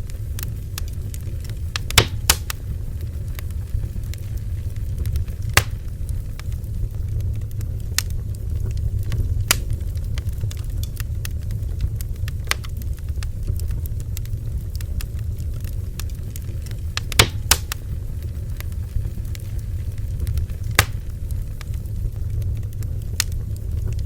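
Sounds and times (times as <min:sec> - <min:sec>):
bonfire rumble: 0:00.0 - 0:24.0
wood crackling and popping: 0:00.0 - 0:24.0.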